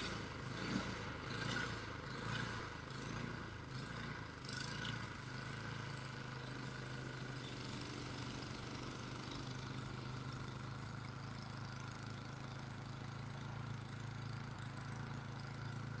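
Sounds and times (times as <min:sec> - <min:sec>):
snow-clearing machine engine running: 0:00.0 - 0:16.0.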